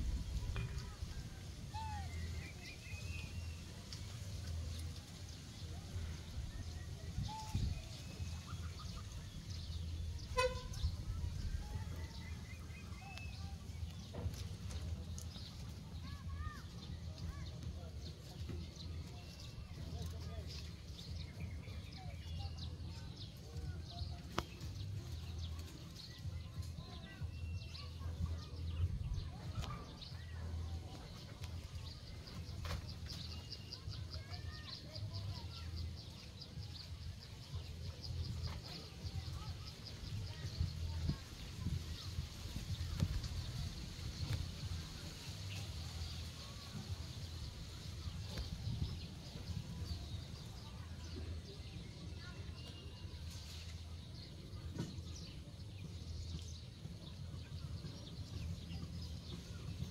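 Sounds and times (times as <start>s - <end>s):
birds chirping: 0.4s - 59.9s.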